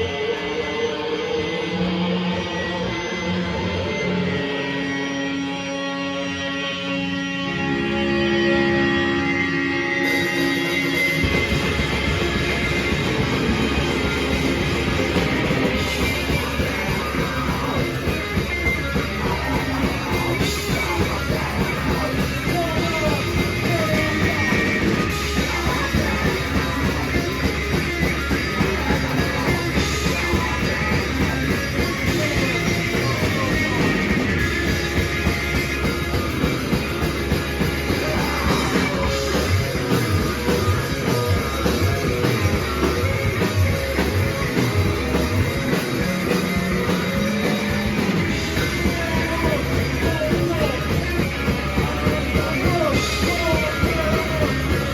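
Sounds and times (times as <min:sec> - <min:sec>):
rock band playing live: 0:00.0 - 0:54.9.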